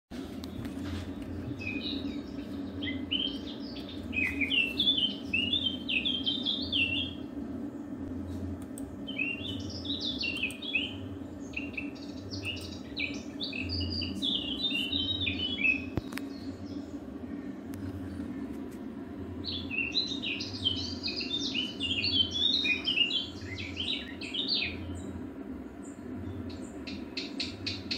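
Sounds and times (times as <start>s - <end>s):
steady low hum: 0.1s - 27.9s
bird singing: 0.4s - 7.4s, 8.9s - 18.5s, 19.3s - 27.9s.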